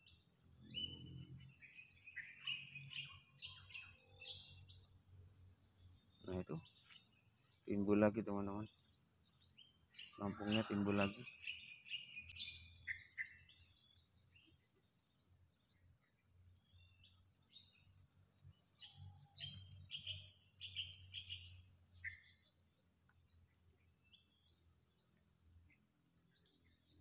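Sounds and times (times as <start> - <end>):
bird chirps: 0.0 - 27.0.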